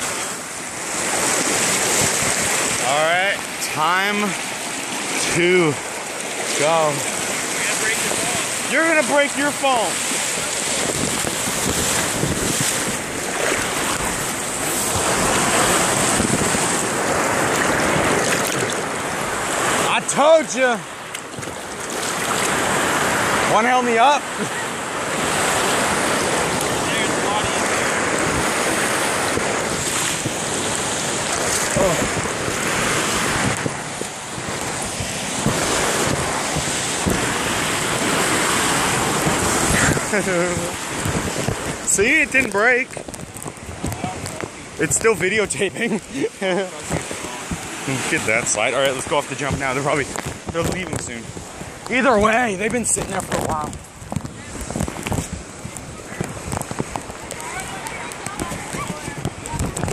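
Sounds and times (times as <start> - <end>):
rushing whitewater: 0.0 - 59.9
water splashing over microphone: 0.0 - 59.9.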